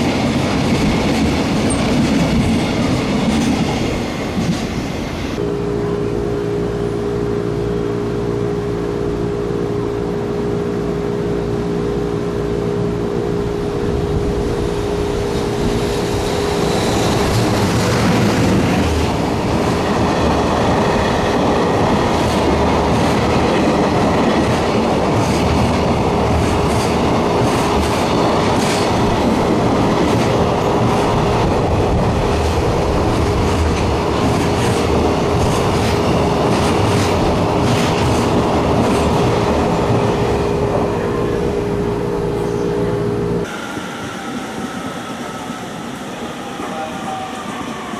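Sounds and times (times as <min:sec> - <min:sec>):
locomotive hum: 0:00.0 - 0:47.9
train rolling on rails: 0:00.0 - 0:47.9.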